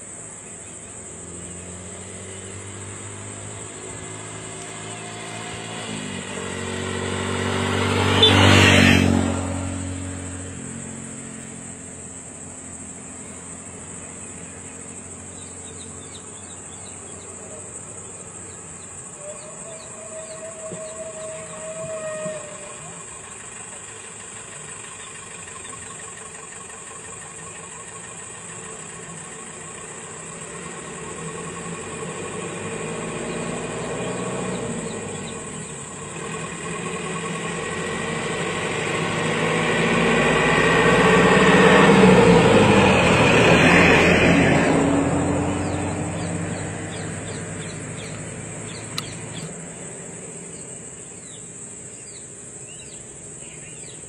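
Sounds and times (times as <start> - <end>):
bus diesel engine passing: 0.0 - 54.0
high insect drone: 0.0 - 54.0.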